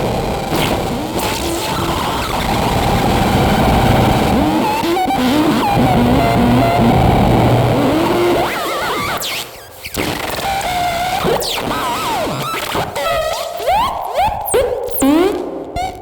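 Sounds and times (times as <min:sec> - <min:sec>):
electronic noise music: 0:00.4 - 0:16.0.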